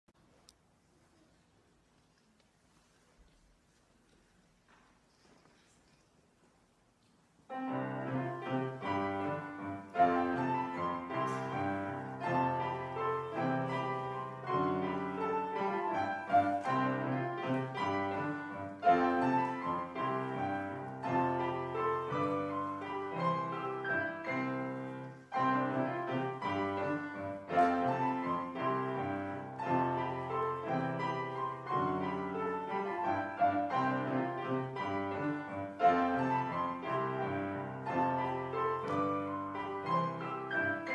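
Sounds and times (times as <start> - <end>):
piano and bowed strings: 7.5 - 40.9.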